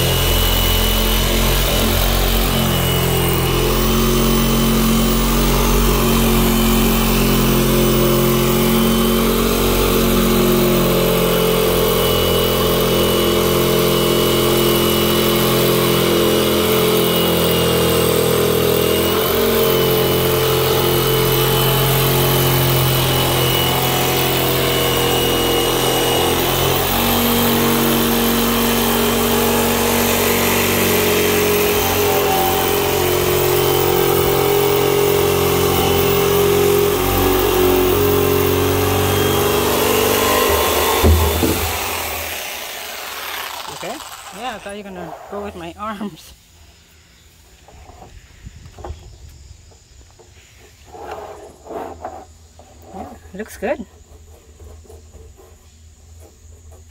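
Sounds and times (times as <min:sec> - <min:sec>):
jigsaw cutting plastic: 0:00.0 - 0:46.0.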